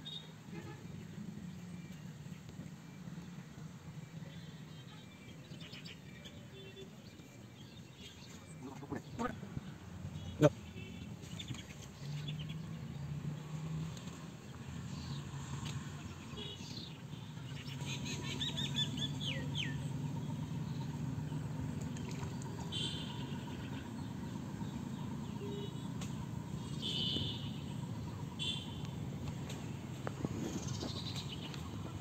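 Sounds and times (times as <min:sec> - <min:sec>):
birds chirping: 0:01.0 - 0:32.0.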